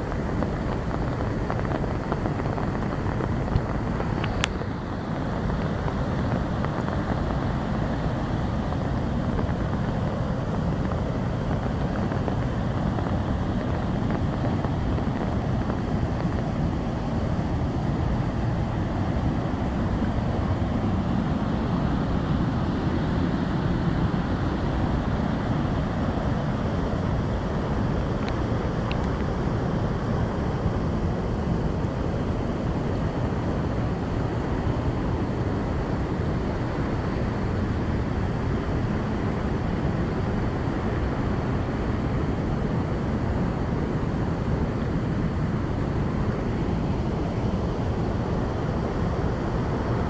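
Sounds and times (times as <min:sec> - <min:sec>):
waterfall roaring: 0:00.0 - 0:50.0.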